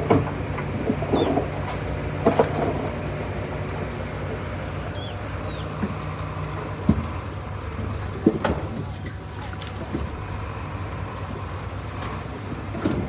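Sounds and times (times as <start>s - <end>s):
diesel machine engine running: 0.0s - 13.0s.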